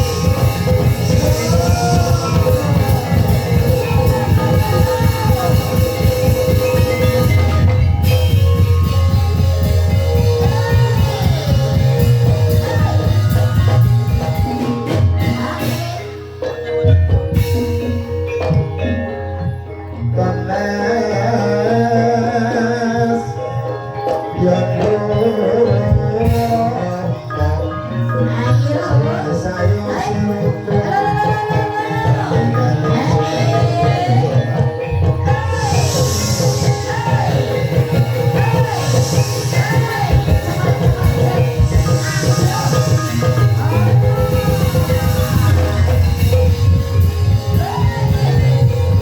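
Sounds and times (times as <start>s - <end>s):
person singing: 0.0s - 16.2s, 20.0s - 49.0s
fast driving drum rhythm: 0.0s - 19.0s, 24.8s - 49.0s
mallet-struck metal keys: 0.0s - 49.0s.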